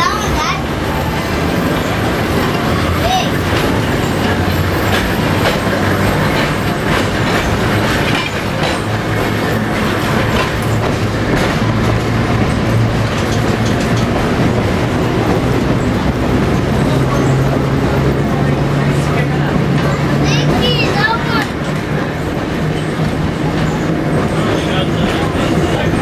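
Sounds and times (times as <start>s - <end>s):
wheels clacking over rail joints: 0.0s - 26.0s.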